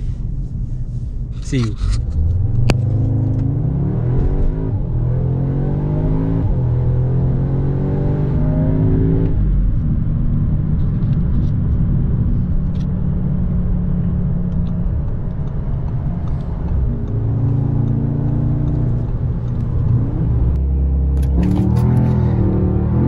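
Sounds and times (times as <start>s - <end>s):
car engine drone: 0.0s - 23.0s
road and tyre rumble: 0.0s - 23.0s.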